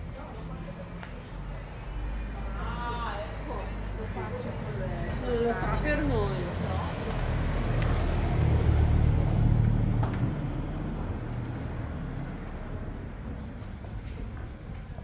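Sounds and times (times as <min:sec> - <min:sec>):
car passing by: 0:02.2 - 0:14.5.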